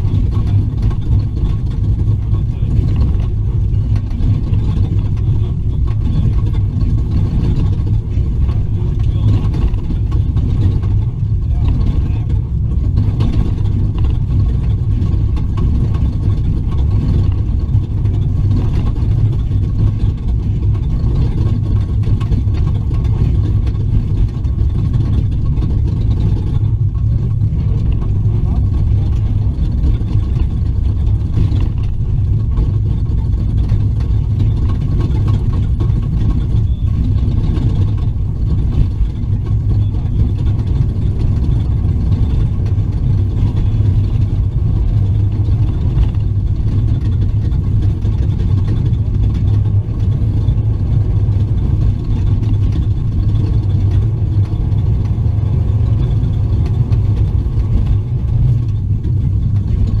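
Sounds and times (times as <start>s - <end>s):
truck engine drone from inside cab: 0.0s - 60.0s.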